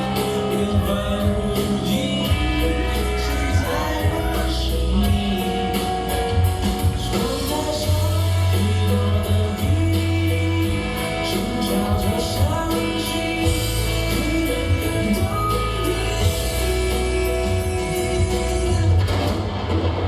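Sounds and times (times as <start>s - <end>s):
music with singing over bass beat: 0.0s - 20.0s.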